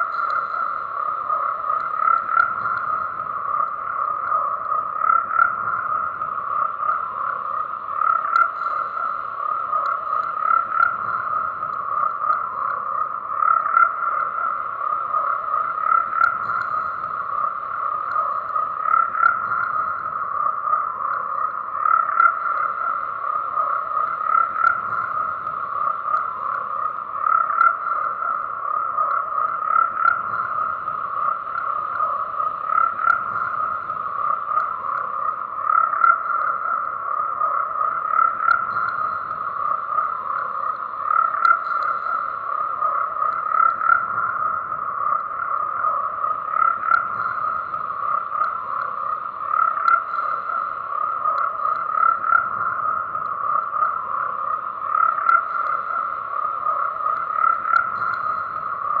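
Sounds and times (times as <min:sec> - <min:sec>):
frogs croaking in chorus: 0:00.0 - 0:59.0.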